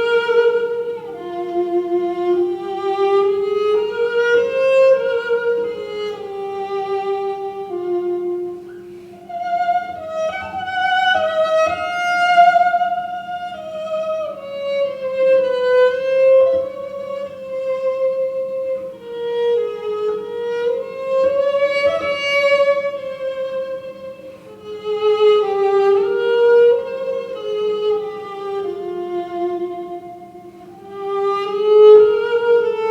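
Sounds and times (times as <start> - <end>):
violin slow melody: 0.0 - 32.9.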